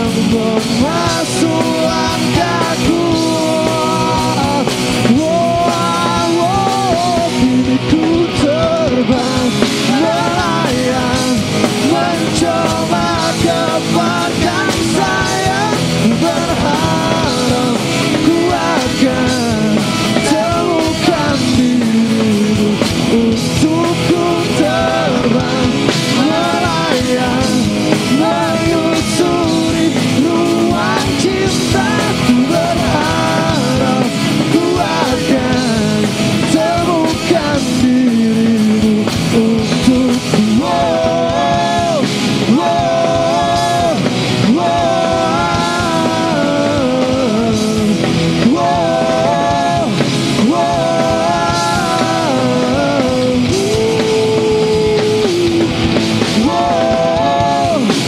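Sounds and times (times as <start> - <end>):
bass: 0.0 - 58.0
drums: 0.0 - 58.0
electric guitars: 0.0 - 58.0.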